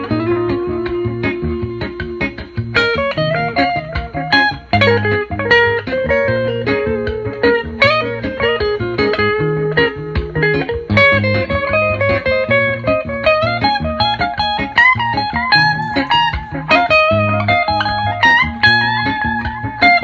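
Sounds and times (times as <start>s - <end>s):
electric guitar melody: 0.0s - 20.0s.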